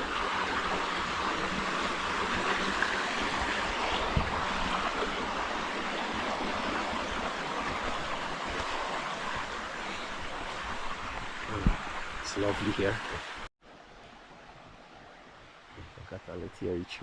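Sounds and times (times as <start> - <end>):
flowing stream: 0.0 - 17.0.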